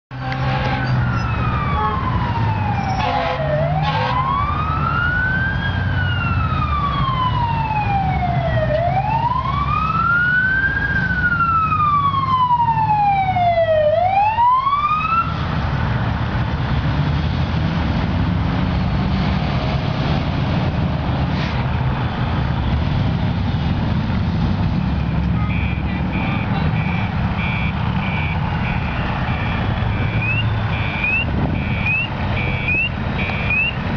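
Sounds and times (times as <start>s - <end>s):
fire truck siren wailing: 0.1s - 21.0s, 21.7s - 33.9s
truck engine rumbling: 0.1s - 33.9s.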